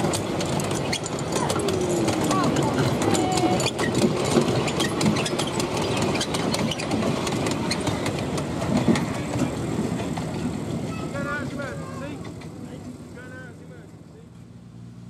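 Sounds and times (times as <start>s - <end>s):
train wheels clicking on rail joints: 0.0s - 14.5s
train engine running: 0.0s - 15.0s.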